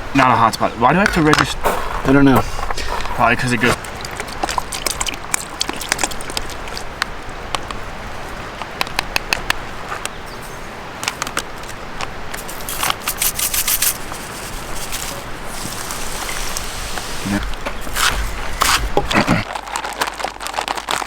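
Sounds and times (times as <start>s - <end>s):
campfire crackling and popping: 0.1s - 10.2s, 11.0s - 21.0s.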